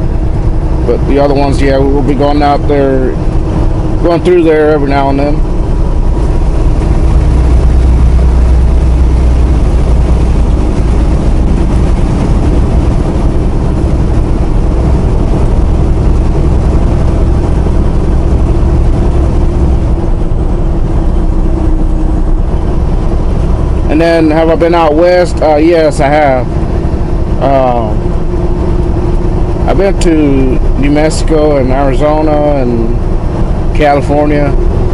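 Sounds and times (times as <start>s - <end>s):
road rumble: 0.0s - 34.9s
truck engine drone: 0.0s - 34.9s.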